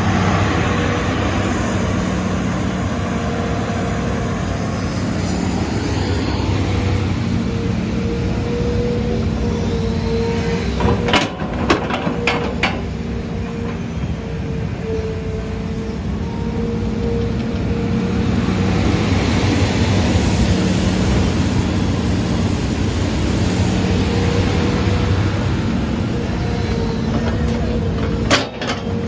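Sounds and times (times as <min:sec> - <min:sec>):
excavator engine hum with whine: 0:00.0 - 0:29.0.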